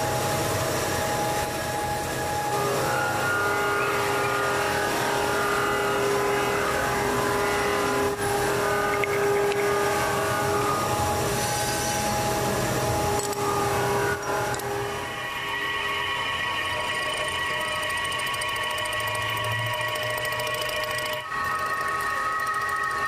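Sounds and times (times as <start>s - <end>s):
metal lathe whine: 0.0s - 23.0s.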